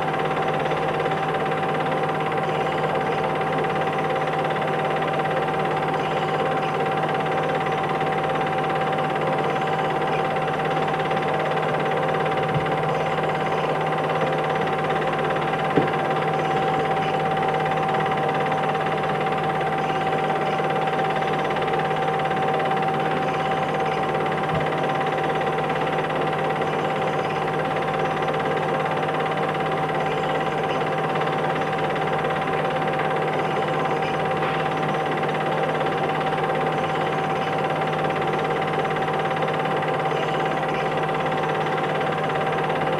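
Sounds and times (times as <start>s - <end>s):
constant whine: 0.0s - 42.9s.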